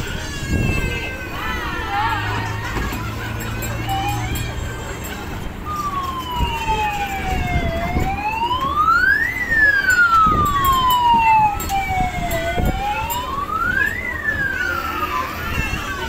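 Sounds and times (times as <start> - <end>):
toy siren wailing: 2.4 - 16.0.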